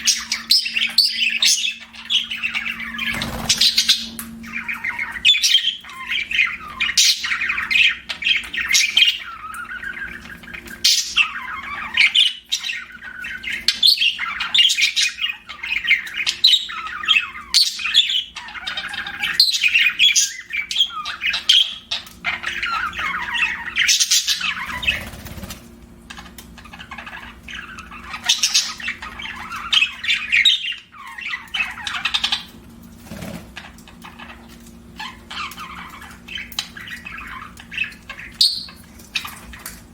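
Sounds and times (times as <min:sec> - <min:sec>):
budgerigars chattering: 0:00.0 - 0:32.6, 0:33.6 - 0:39.8
faint steady hum: 0:00.0 - 0:39.9.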